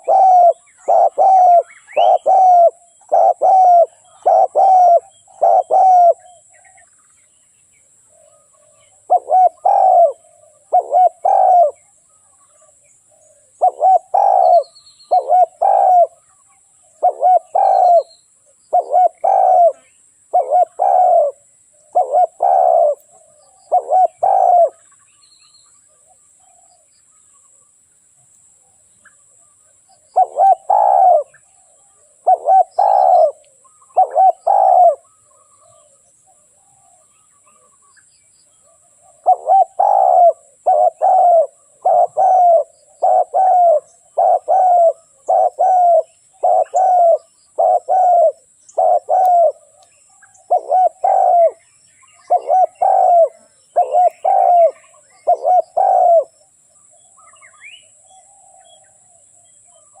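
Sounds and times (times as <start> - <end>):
dove cooing: 0.0 - 6.8, 8.2 - 11.9, 12.5 - 24.9, 29.9 - 37.7, 38.6 - 57.2.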